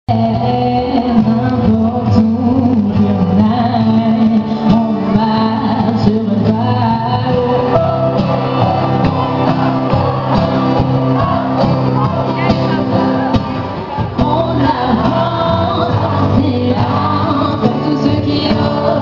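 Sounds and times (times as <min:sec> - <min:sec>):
woman singing pop song: 0:00.1 - 0:08.9, 0:10.4 - 0:19.0
acoustic guitar strumming: 0:00.1 - 0:19.0.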